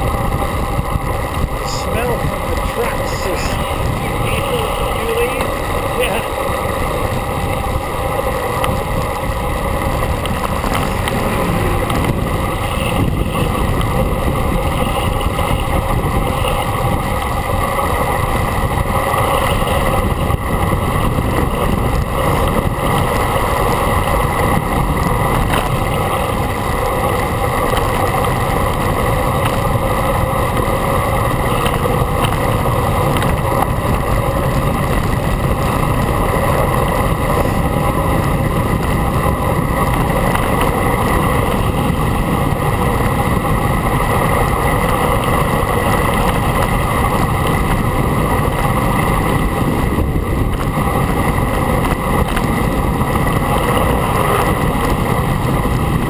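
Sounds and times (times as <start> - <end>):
vehicle wind and road rumble: 0.0 - 56.0.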